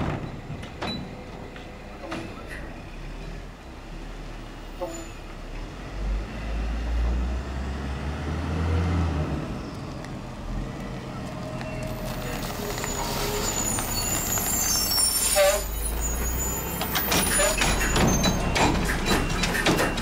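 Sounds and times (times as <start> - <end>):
brake squeals: 0.2 - 6.6, 9.0 - 20.0.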